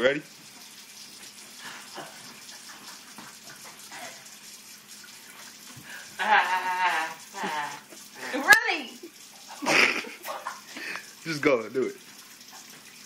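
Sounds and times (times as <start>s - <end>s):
faucet running into sink: 0.0s - 13.0s.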